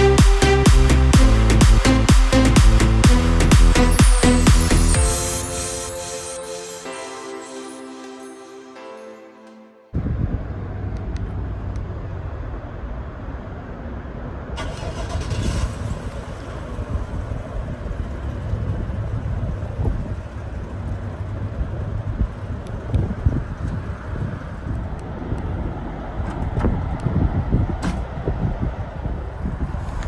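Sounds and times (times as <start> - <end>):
truck engine rumbling: 0.0 - 8.2, 10.0 - 27.4, 29.2 - 30.0.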